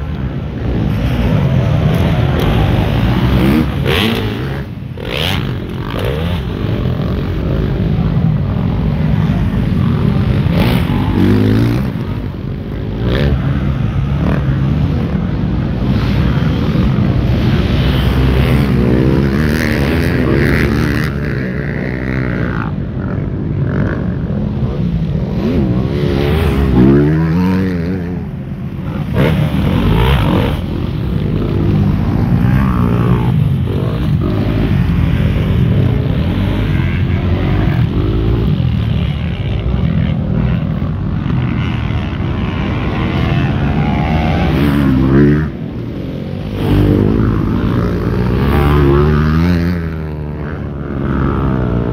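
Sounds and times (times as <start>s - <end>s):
motocross engines revving: 0.0s - 51.9s.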